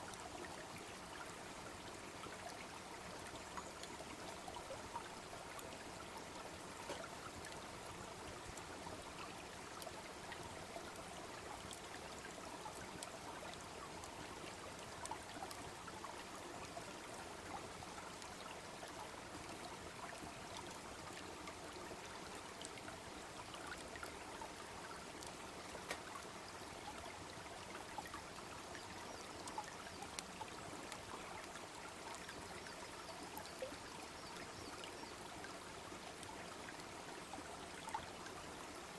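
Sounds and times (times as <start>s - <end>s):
babbling brook: 0.0s - 38.9s.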